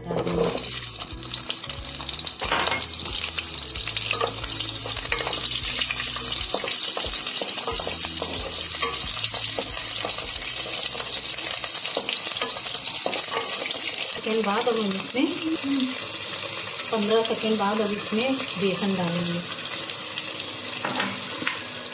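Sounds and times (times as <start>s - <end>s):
onions sizzling in hot oil: 0.1s - 21.9s.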